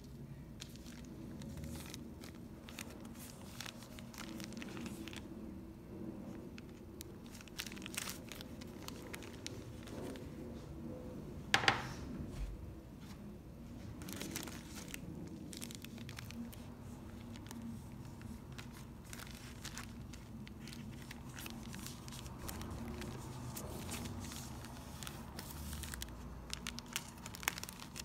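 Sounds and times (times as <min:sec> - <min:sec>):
plastic bag crinkling: 0:00.0 - 0:10.4, 0:13.9 - 0:28.0.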